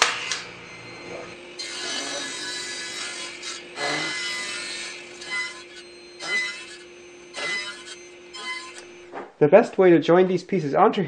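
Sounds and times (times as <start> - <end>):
saw blade cutting wood: 0.0 - 9.0
table saw humming: 0.0 - 9.4.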